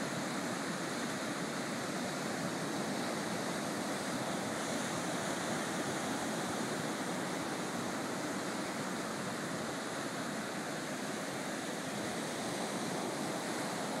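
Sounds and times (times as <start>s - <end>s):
surf waves washing on beach: 0.0s - 14.0s.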